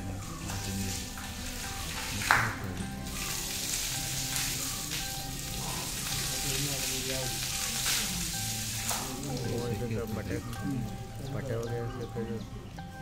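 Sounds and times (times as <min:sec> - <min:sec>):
water splashing: 0:00.0 - 0:12.6.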